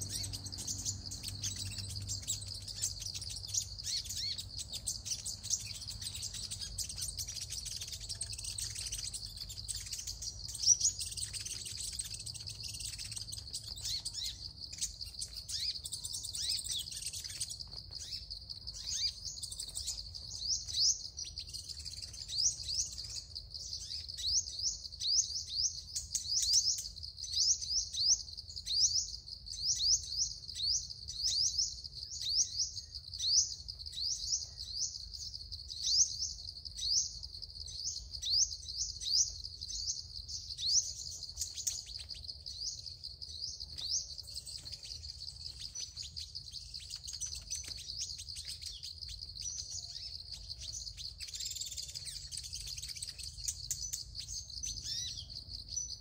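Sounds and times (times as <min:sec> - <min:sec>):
sunbird chirps: 0:00.0 - 0:56.0.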